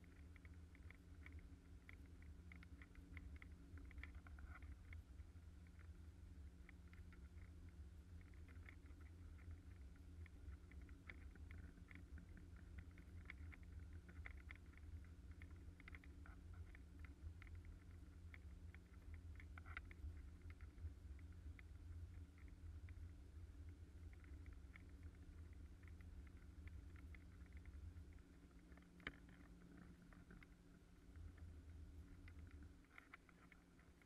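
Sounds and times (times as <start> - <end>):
light ticks and taps: 0.0 - 34.0.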